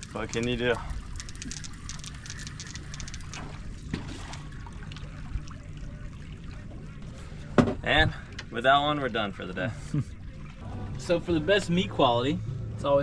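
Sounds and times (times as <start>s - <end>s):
water splashing and trickling: 0.0s - 12.2s
low engine hum: 0.0s - 13.0s.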